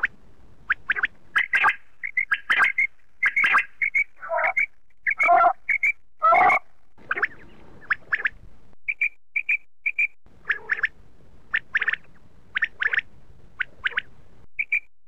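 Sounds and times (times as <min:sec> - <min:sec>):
quail calling: 0:00.7 - 0:14.9.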